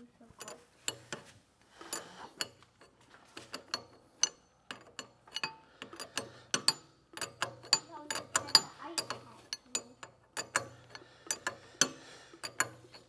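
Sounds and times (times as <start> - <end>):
wrench clinking on metal fittings: 0.3 - 13.0.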